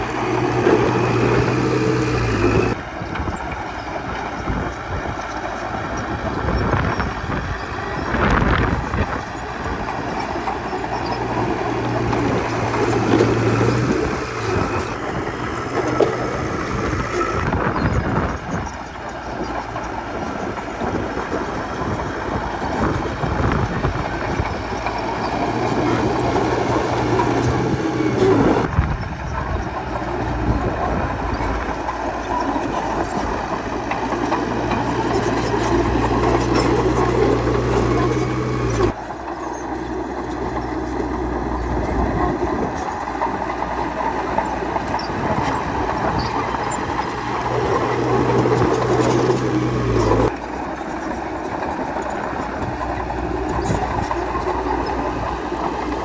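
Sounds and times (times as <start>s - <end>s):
diesel engine running: 0.0s - 56.0s
steel crawler tracks clattering: 0.0s - 56.0s.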